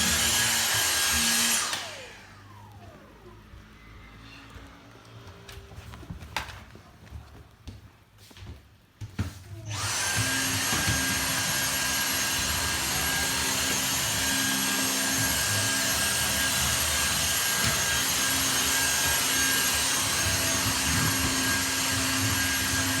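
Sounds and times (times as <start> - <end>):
vacuum cleaner running: 0.0 - 6.0, 9.6 - 23.0.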